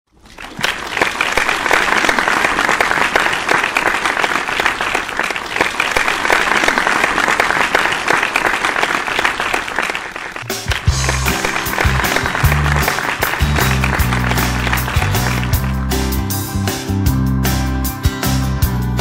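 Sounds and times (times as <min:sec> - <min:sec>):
audience applauding: 0:00.1 - 0:16.6.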